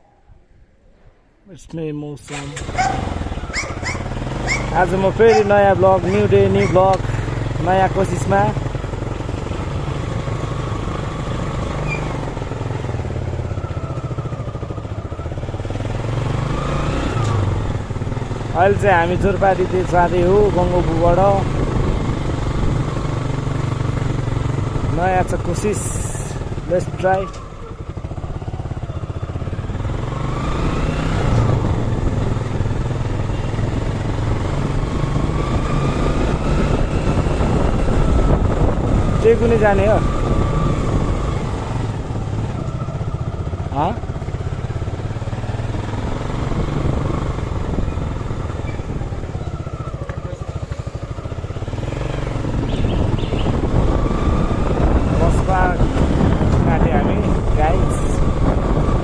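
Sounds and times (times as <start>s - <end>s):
motorcycle engine running: 2.3s - 59.0s.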